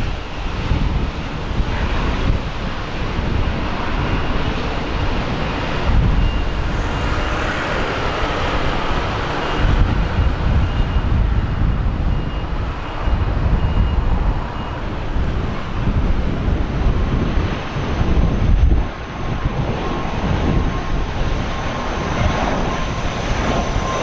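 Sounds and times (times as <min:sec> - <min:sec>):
jet airliner engine noise: 0:00.0 - 0:24.0
wind buffeting on microphone: 0:00.0 - 0:24.0.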